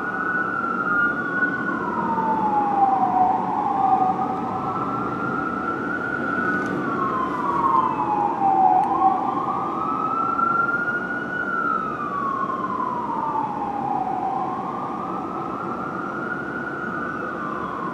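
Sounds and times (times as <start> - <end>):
fire engine siren wailing: 0.0 - 17.9.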